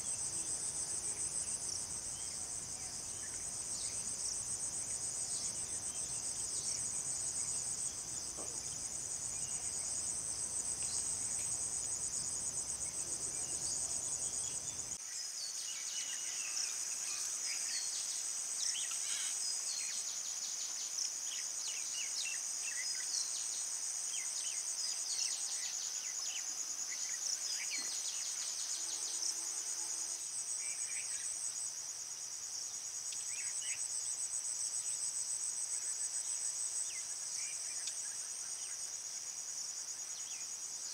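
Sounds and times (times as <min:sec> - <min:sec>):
cricket chorus trilling: 0:00.0 - 0:40.9.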